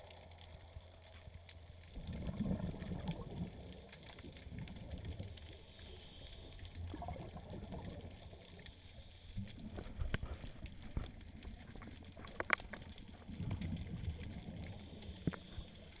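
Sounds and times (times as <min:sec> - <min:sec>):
underwater water rumble: 0:00.0 - 0:16.0.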